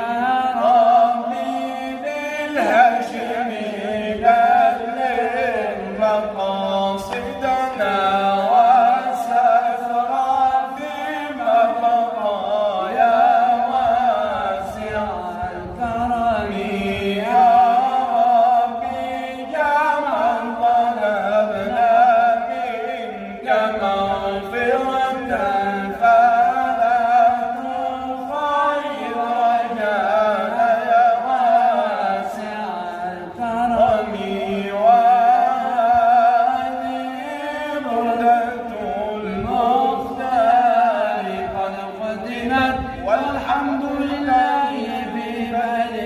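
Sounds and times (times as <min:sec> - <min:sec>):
man chanting: 0:00.0 - 0:46.0.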